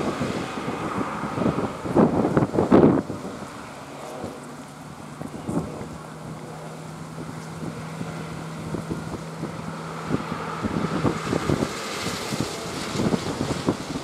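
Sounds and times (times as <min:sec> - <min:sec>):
helicopter rotor and turbine noise: 0:00.0 - 0:14.0
wind buffeting microphone: 0:00.0 - 0:14.0.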